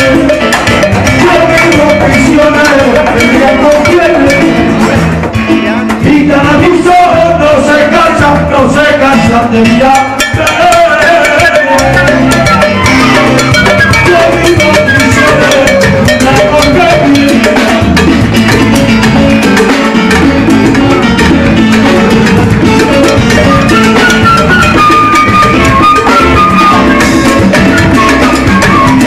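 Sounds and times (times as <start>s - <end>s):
drum kit and percussion rhythm: 0.0s - 29.0s
live band playing latin dance music: 0.0s - 29.0s.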